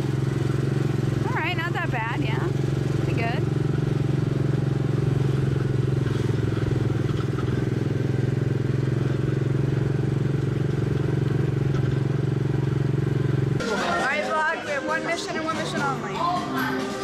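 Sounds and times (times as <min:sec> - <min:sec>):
small gasoline engine droning: 0:00.0 - 0:17.0.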